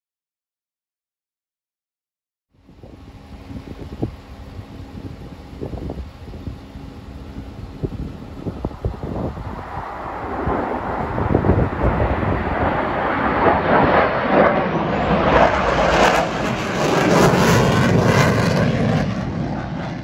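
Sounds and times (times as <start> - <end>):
jet flying past: 2.7 - 20.0.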